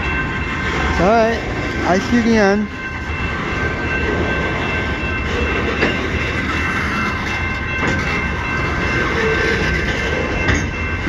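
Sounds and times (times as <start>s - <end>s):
freight train rail rumble: 0.0s - 11.0s.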